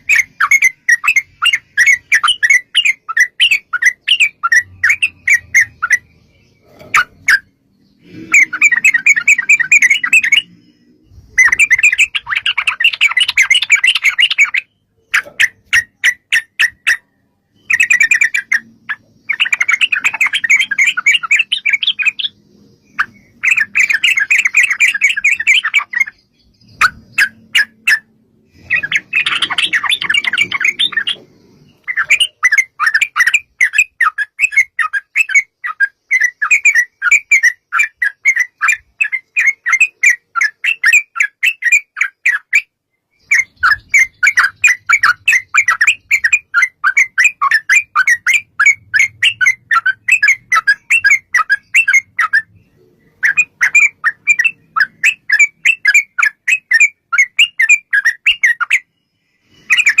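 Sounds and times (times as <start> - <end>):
bird chattering song: 0.0 - 60.0.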